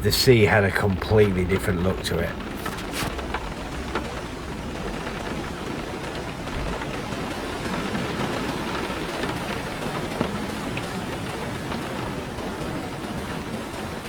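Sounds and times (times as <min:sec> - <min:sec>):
stormy rushing noise: 0:00.0 - 0:14.0.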